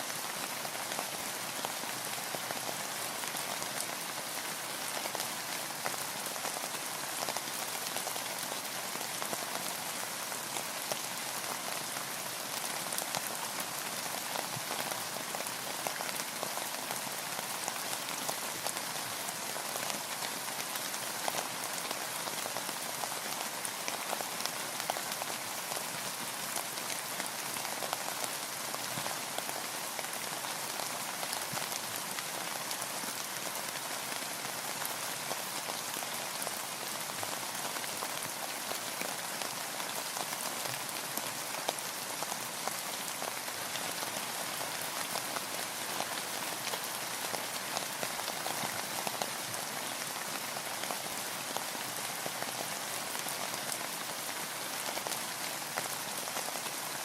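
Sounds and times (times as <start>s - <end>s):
rain falling on a boat: 0.0s - 57.0s.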